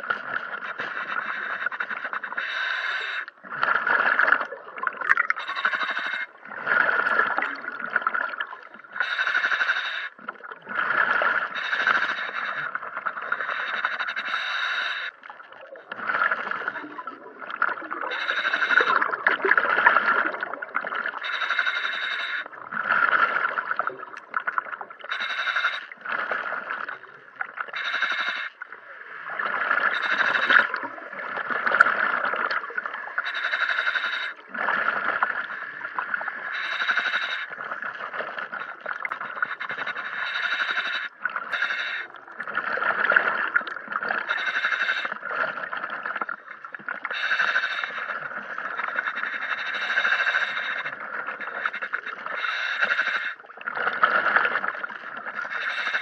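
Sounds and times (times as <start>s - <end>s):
regulator breathing underwater: 0.0s - 56.0s.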